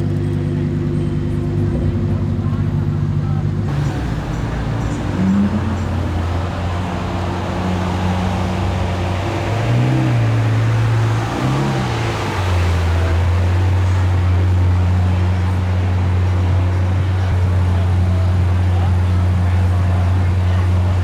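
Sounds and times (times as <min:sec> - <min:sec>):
car engine revving: 0:00.6 - 0:21.0.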